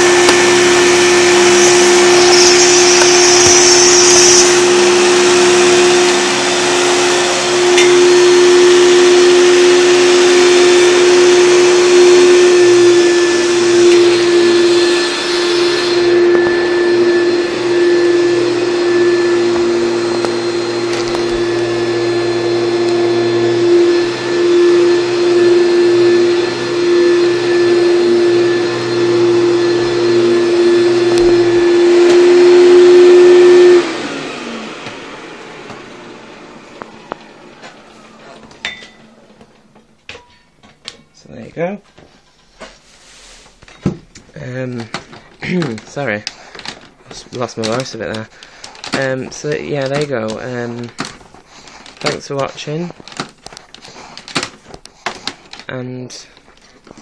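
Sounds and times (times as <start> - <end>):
upright vacuum cleaner running: 0.0 - 41.0, 42.0 - 57.0.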